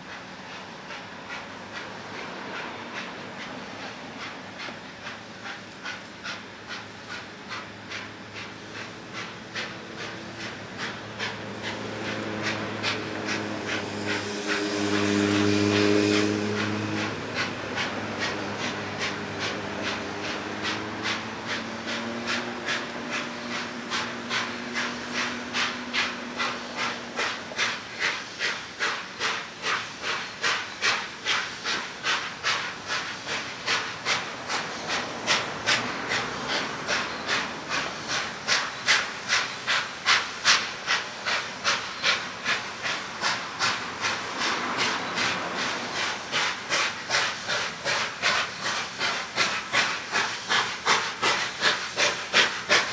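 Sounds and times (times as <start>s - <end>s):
steam locomotive exhaust beats: 0.0s - 52.9s.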